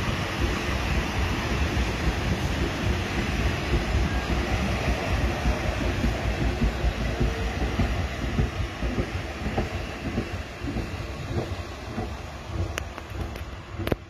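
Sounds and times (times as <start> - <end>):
train coaches rumbling on rails: 0.0 - 14.0.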